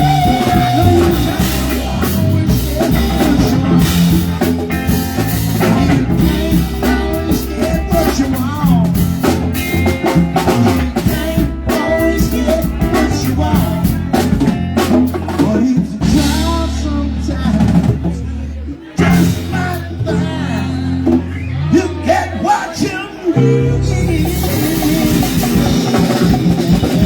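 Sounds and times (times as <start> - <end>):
drum kit beat: 0.0 - 18.3, 19.0 - 21.5, 23.8 - 27.0
live rock band playing: 0.0 - 27.0.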